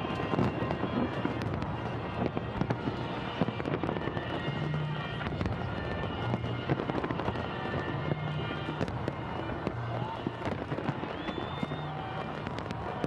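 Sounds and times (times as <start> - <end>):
fireworks bursts and crackles: 0.0 - 13.0.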